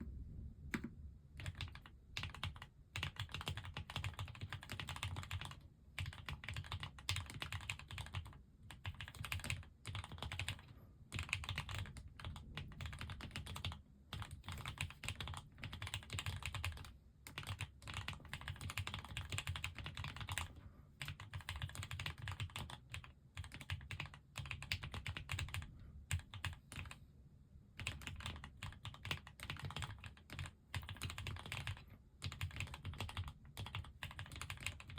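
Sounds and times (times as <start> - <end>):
mechanical keyboard typing: 0.7 - 27.0, 27.8 - 34.9.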